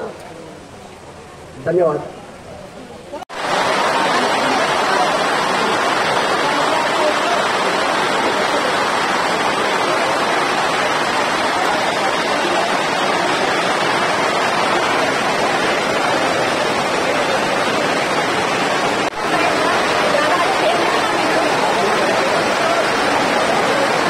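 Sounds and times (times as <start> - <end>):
heavy rain on tent canopy: 3.1 - 24.0.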